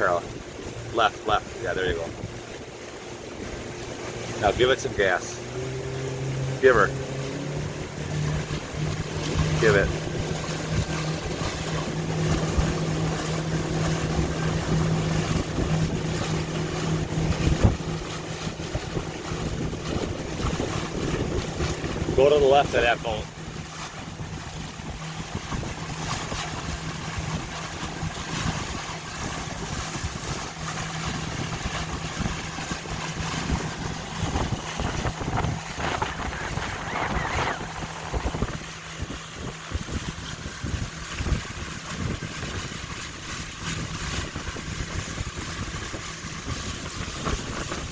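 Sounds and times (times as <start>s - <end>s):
motorboat engine: 0.0s - 47.9s
water rushing past hull: 0.0s - 47.9s
wind buffeting microphone: 0.0s - 47.9s.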